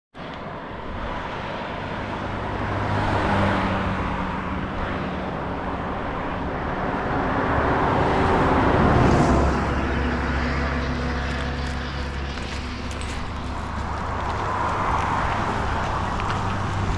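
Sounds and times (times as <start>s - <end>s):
steady engine hum: 0.2s - 16.9s
vehicles passing: 0.2s - 16.9s.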